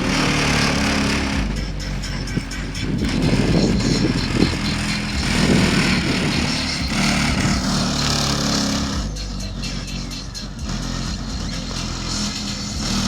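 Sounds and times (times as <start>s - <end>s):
bass-heavy music from car speakers: 0.0s - 13.0s.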